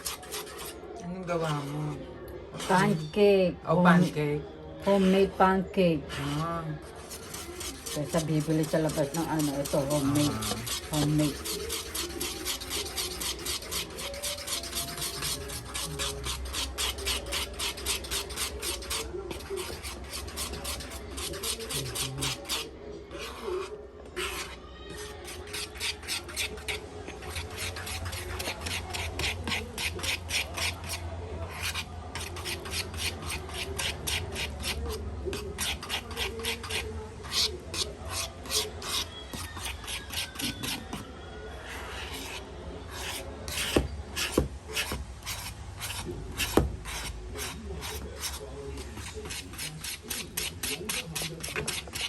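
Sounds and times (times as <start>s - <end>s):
batter beaten in a bowl: 0.0s - 2.0s, 6.0s - 52.0s.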